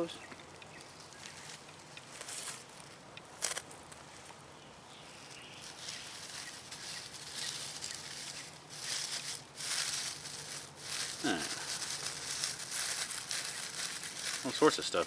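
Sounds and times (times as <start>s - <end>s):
tinder burning with a hiss: 0.5s - 15.0s.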